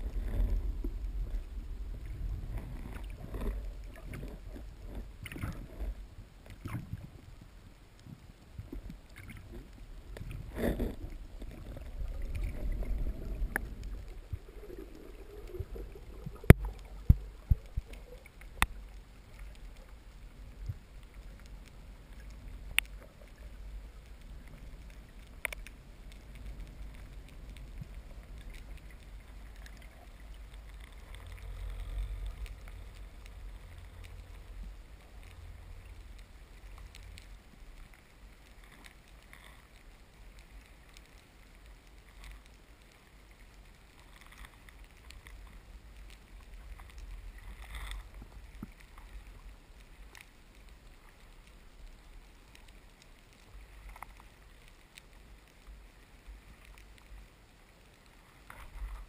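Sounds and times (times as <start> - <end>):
faint clicks and crackles: 0.0 - 59.0
underwater low rumble: 0.0 - 59.0.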